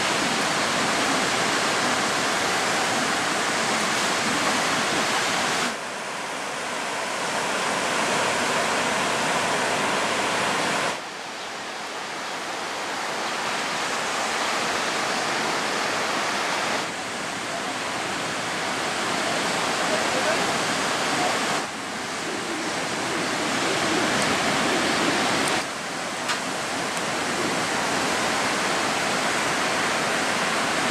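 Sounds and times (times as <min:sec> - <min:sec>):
ocean surf breaking: 0:00.0 - 0:30.9.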